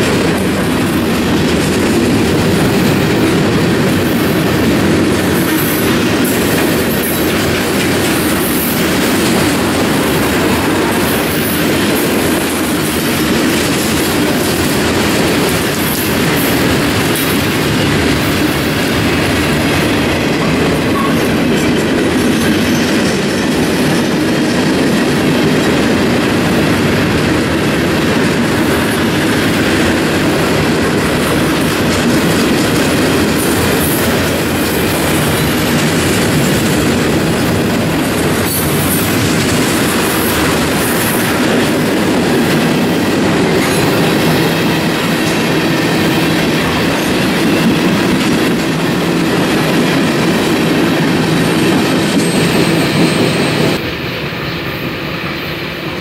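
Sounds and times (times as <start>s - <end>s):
freight train wheels rolling on rail: 0.0s - 56.0s.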